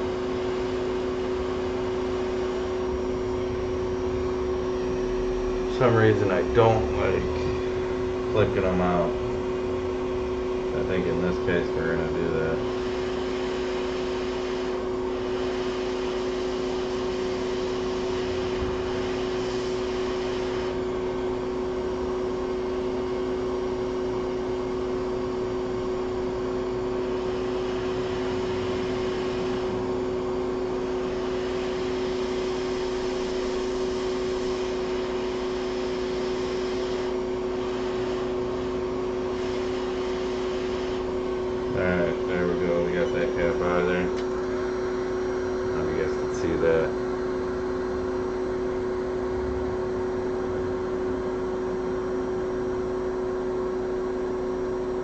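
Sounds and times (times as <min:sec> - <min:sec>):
electric fan whirring hum: 0:00.0 - 0:55.0.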